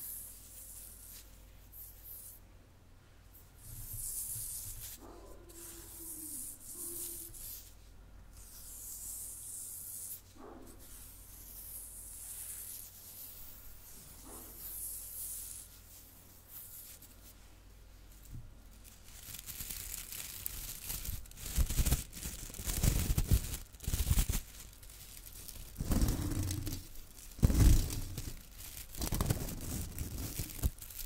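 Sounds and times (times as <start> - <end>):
soft hissy scratching: 0.0 - 2.5, 3.2 - 31.0.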